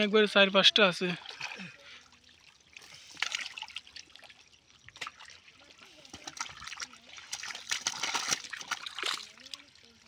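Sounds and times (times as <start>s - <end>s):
splashing in shallow water: 1.0s - 10.0s
sharp splashes: 1.1s - 10.0s.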